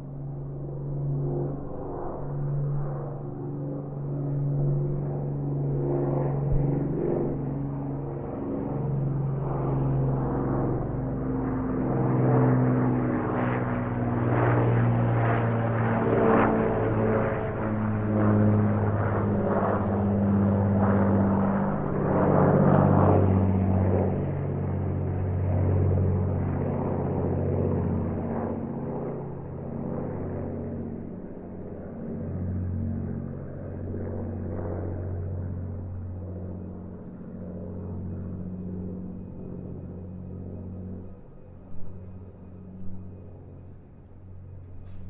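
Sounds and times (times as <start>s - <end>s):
propellers: 0.0s - 45.0s.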